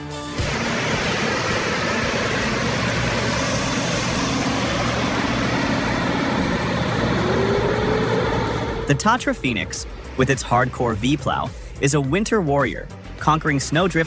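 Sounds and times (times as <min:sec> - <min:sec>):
heavy truck engine running: 0:00.4 - 0:14.0.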